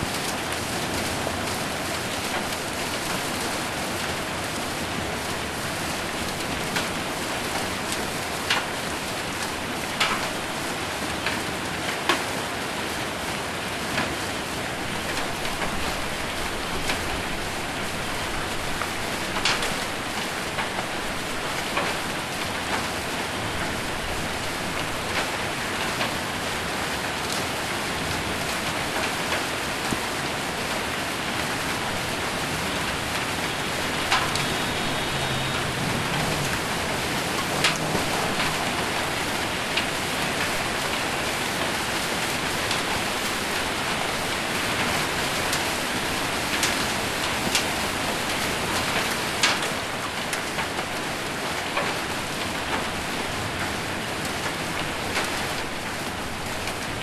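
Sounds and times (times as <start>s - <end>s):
hail and rain on metal roof: 0.0s - 57.0s.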